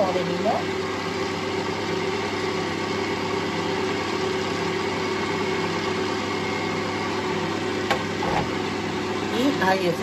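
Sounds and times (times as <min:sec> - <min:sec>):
kitchen mixer motor humming: 0:00.0 - 0:09.8.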